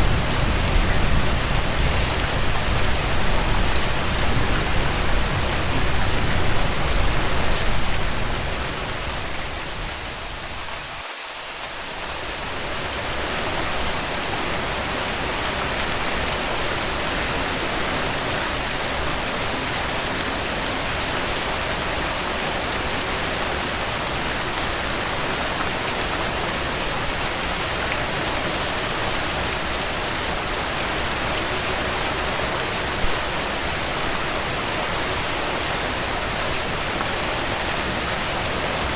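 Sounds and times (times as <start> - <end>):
rain pattering on a tent: 0.0 - 38.9.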